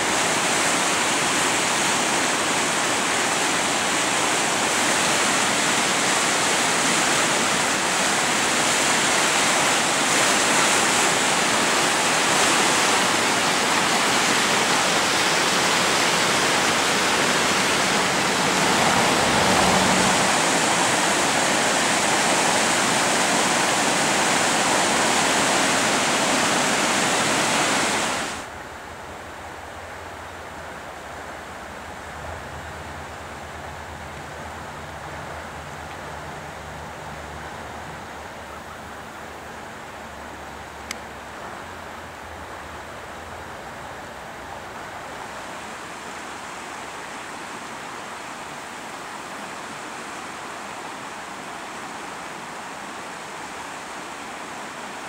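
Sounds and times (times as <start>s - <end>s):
floodwater rushing: 0.0s - 55.0s.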